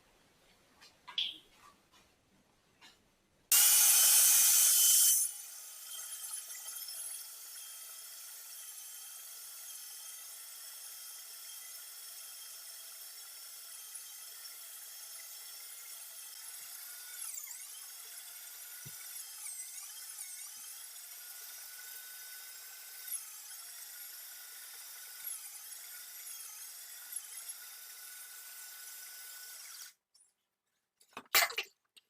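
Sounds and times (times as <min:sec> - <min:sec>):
electric meat grinder whine: 0:03.5 - 0:30.0.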